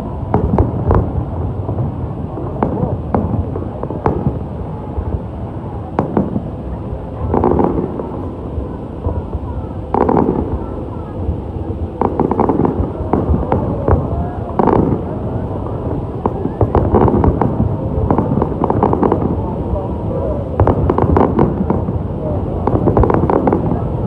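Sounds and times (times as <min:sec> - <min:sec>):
fireworks bangs and crackle: 0:00.0 - 0:24.0.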